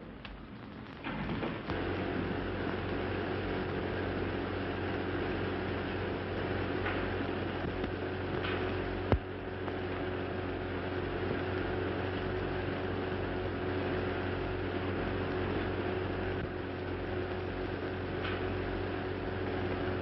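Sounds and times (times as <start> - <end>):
film soundtrack hiss and hum: 0.0 - 20.0.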